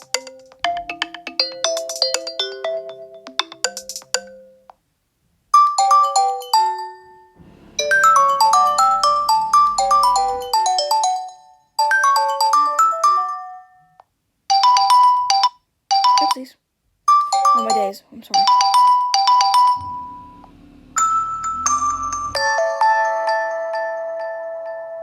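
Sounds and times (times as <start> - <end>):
phone ringtone melodies: 0.0 - 4.6, 5.6 - 16.4, 17.1 - 20.4, 21.0 - 25.0.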